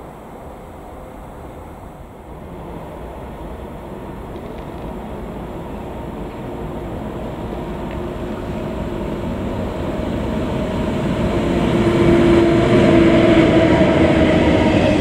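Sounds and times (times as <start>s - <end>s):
multi-tone train whine: 0.0s - 15.0s
train running past: 0.0s - 15.0s.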